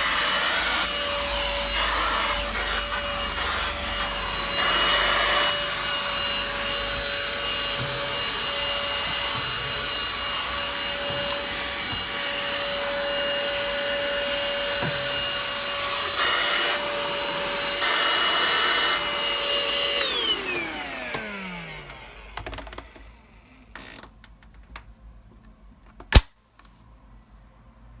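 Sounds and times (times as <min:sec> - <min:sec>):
stick vacuum cleaner whining: 0:00.0 - 0:24.2.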